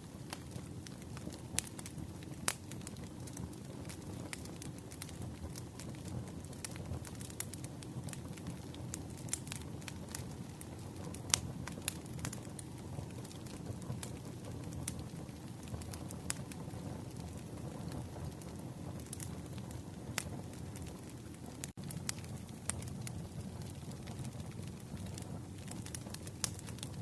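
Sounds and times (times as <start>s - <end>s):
campfire crackling: 0.0s - 27.0s
burning wood popping: 0.1s - 27.0s.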